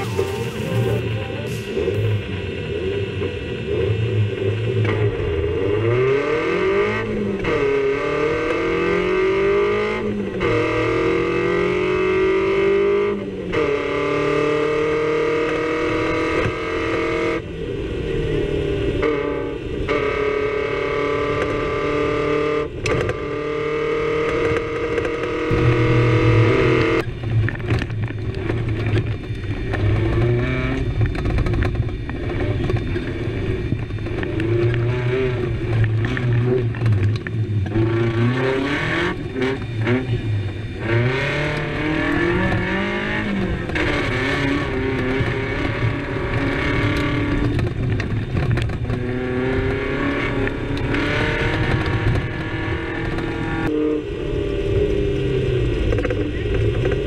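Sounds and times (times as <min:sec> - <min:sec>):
car engine revving hard: 0:01.5 - 0:17.5, 0:18.2 - 0:27.1, 0:32.2 - 0:57.0.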